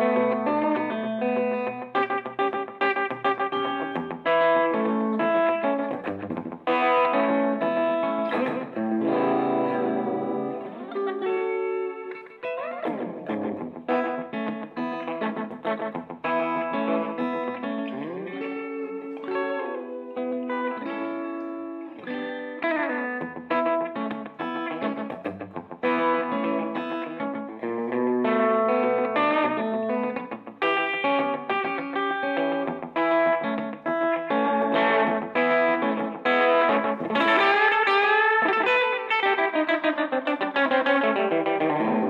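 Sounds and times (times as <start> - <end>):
electric guitar playing rockabilly: 0.0 - 42.0.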